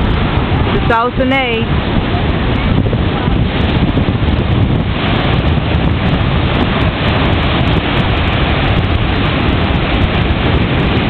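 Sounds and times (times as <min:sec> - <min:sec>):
surf breaking against shore: 0:00.0 - 0:11.0
wind buffeting microphone: 0:00.0 - 0:11.0.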